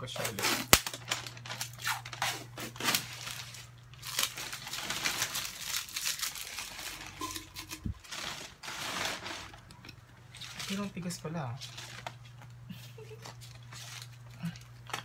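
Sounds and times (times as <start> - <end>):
faint steady hum: 0.0 - 15.0
plastic tape crinkling: 0.1 - 15.0.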